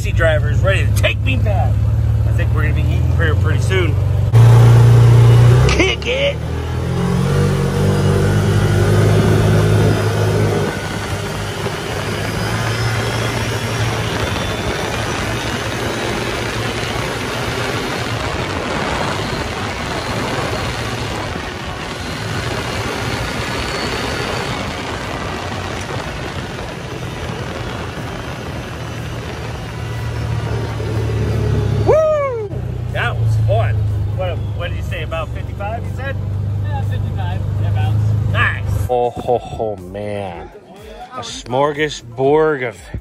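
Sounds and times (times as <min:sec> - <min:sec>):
vehicle engine pulling away: 0:00.0 - 0:40.4
driving noise: 0:00.0 - 0:43.0.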